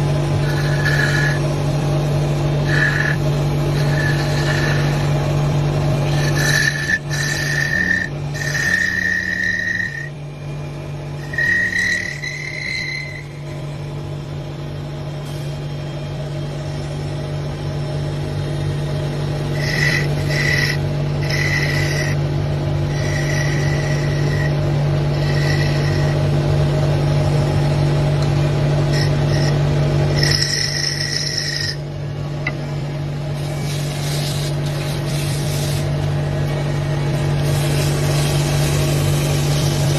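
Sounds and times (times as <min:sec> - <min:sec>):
high-pitched whines: 0:00.0 - 0:26.5, 0:28.8 - 0:35.8
machine humming: 0:00.0 - 0:39.9.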